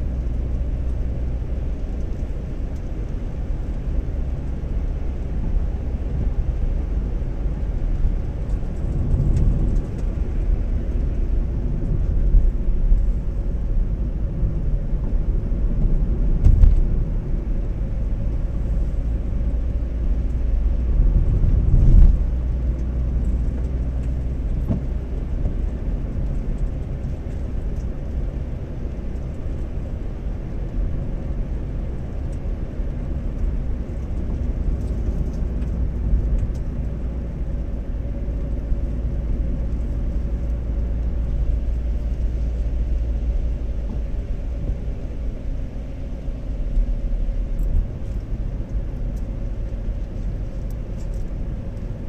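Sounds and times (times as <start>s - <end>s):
car engine hum: 0.0s - 52.0s.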